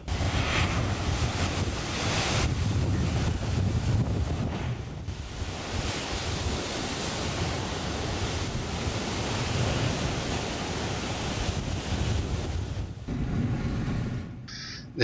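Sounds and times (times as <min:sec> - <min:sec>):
surf crashing on rocks: 0:00.0 - 0:14.1
wind buffeting microphone: 0:00.0 - 0:15.0.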